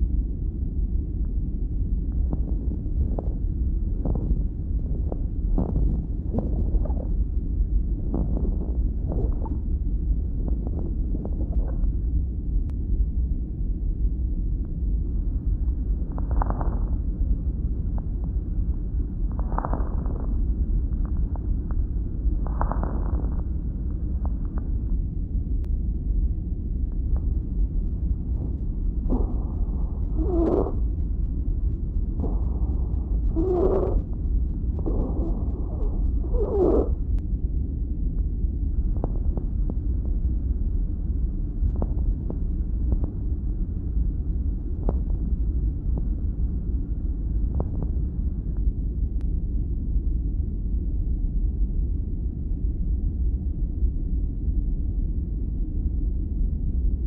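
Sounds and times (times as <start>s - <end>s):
low rumble: 0.0s - 57.0s.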